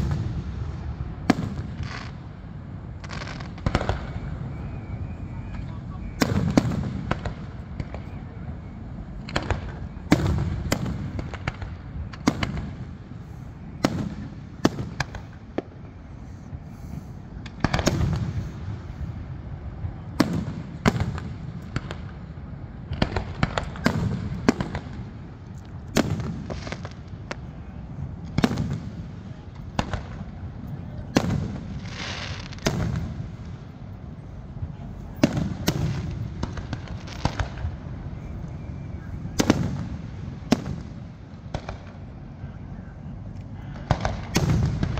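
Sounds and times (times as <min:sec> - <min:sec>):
fireworks bangs with rumble: 0:00.0 - 0:16.0, 0:17.3 - 0:38.2, 0:38.8 - 0:42.3, 0:43.7 - 0:44.9.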